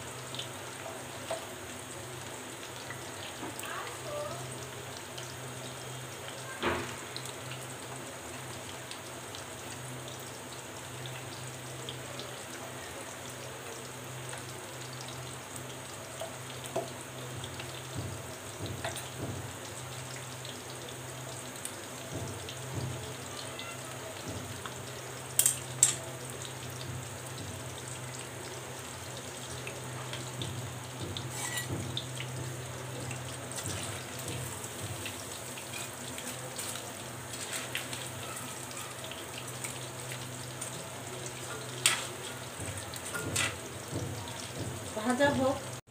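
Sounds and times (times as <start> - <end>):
chicken deep-frying in oil: 0.0 - 45.9.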